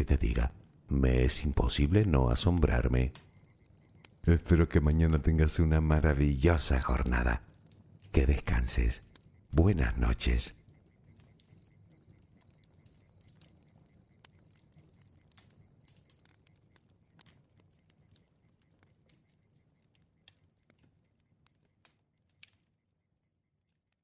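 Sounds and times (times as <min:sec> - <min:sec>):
insects chirping trills: 0:00.0 - 0:23.4
campfire crackling and popping: 0:00.0 - 0:24.0.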